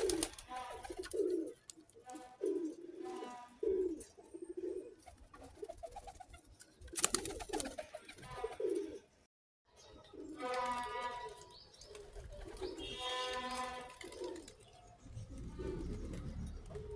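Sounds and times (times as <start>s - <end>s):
pigeons cooing: 0.0s - 9.2s, 10.0s - 16.9s.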